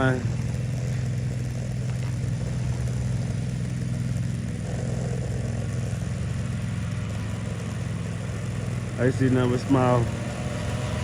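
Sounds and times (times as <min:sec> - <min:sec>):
small engine running steadily: 0:00.0 - 0:11.0.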